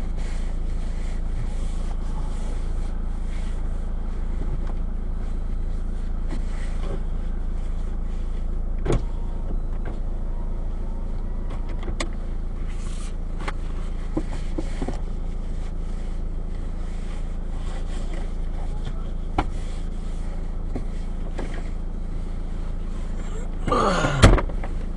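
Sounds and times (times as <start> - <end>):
car rumble inside cabin: 0.0 - 24.9.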